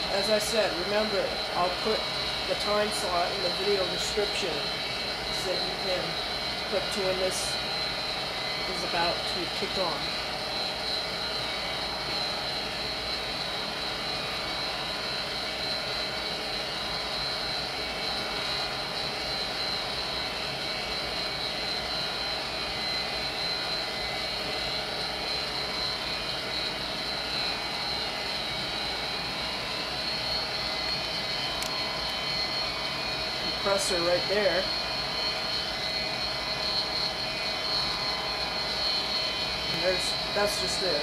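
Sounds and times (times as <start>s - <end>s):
steady high whine: 0.0s - 41.0s.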